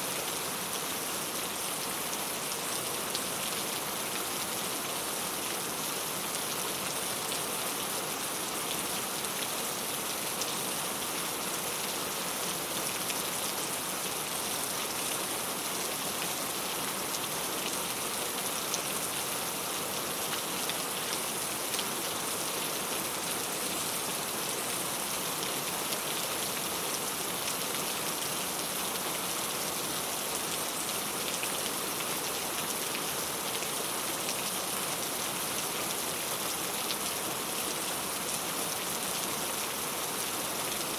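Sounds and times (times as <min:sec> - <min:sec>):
rain on a tile roof: 0:00.0 - 0:40.9.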